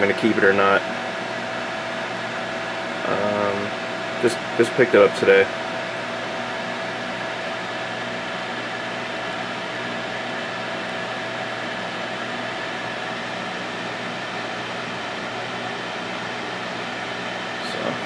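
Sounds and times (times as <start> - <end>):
fans whirring: 0.0 - 18.0.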